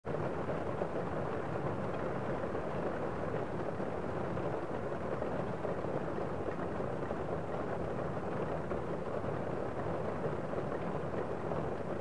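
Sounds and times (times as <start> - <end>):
steady rain: 0.1 - 12.0.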